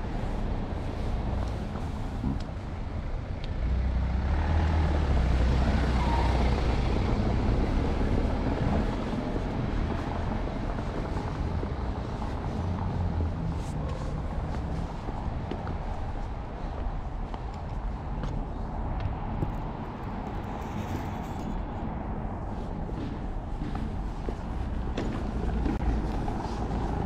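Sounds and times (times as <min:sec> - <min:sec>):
street traffic noise: 0:00.0 - 0:27.0
vehicle engine rumble: 0:00.0 - 0:27.0.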